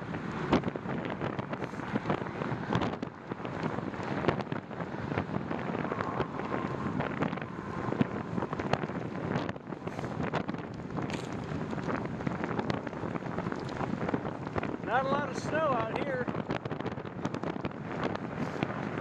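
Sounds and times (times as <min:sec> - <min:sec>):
wind buffeting microphone: 0:00.0 - 0:19.0
short crackles: 0:00.3 - 0:19.0.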